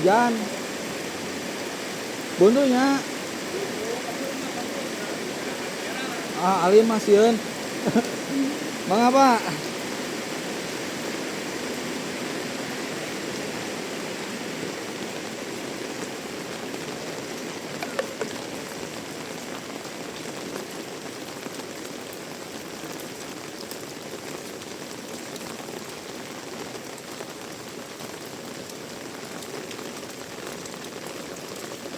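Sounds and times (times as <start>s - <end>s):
heavy rain: 0.0s - 31.9s.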